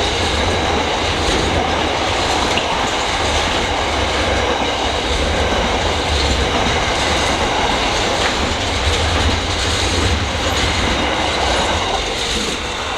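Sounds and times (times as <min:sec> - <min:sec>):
freight train rolling past: 0:00.0 - 0:12.9
wheel and rail noise: 0:00.0 - 0:12.9.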